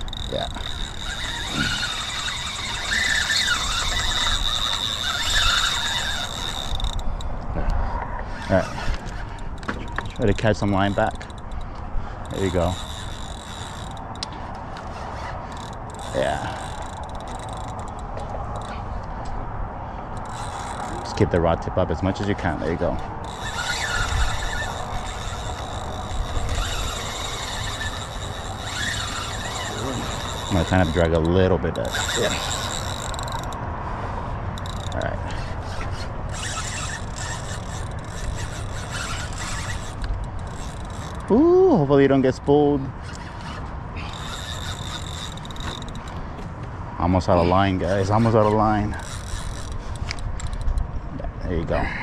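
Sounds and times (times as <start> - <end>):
fishing reel drag whining: 0.0 - 46.4, 47.0 - 50.9.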